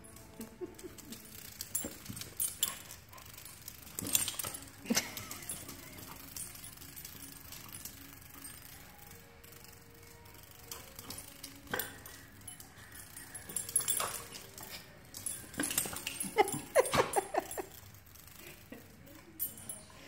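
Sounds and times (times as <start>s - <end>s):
claws and tags clicking on floor: 0.0s - 20.0s.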